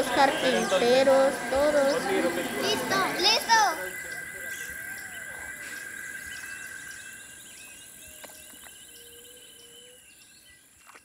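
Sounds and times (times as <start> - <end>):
insect trilling: 0.0 - 10.6
bird calls: 0.0 - 11.0.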